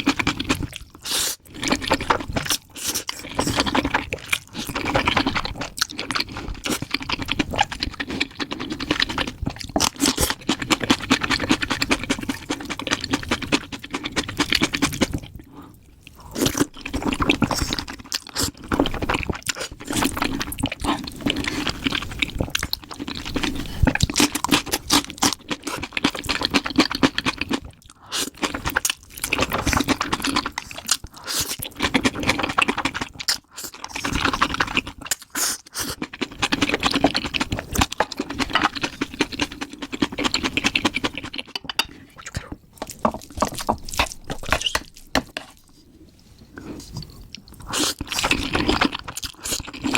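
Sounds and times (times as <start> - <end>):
crunching and chewing food: 0.0 - 49.9.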